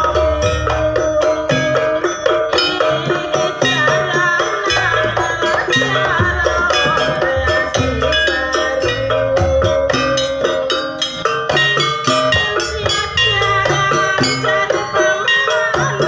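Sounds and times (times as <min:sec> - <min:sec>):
drums: 0:00.0 - 0:16.0
gamelan ensemble music: 0:00.0 - 0:16.0
high wavering melody: 0:00.0 - 0:16.0
struck gongs and metallophones: 0:00.0 - 0:16.0.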